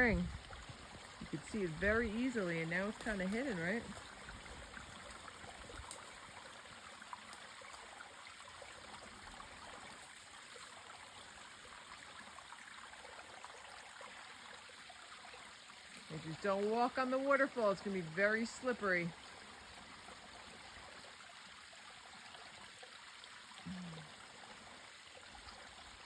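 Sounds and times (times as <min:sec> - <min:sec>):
water flowing down small waterfall: 0:00.0 - 0:26.0.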